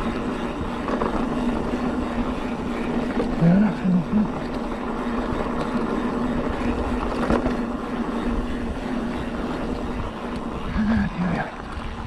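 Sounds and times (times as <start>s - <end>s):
bike tyres on dirt trail: 0.0s - 12.0s.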